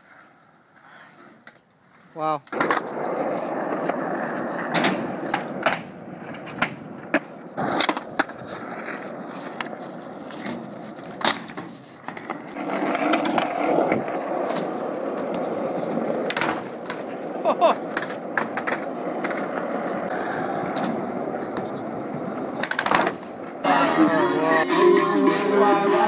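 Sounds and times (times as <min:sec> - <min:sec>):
skateboard wheels rolling on concrete: 0:00.0 - 0:26.0
skateboard clacks: 0:02.4 - 0:25.4.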